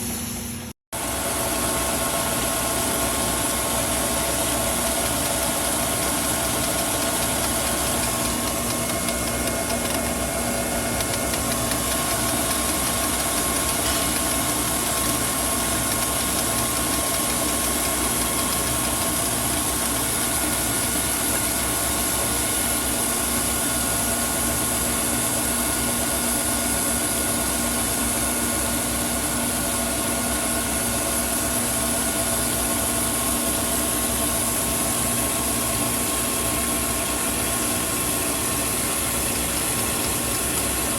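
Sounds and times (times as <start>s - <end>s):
grinding machine running: 0.0s - 40.9s.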